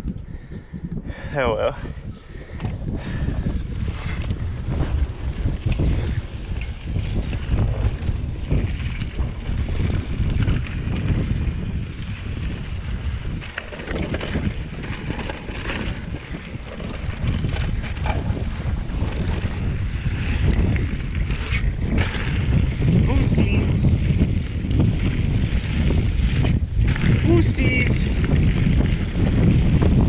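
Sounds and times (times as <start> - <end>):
wind rumbling on microphone: 0.0 - 30.0
bike parts clicking and rattling: 2.1 - 30.0
bike tyres crunching on dirt: 2.2 - 30.0.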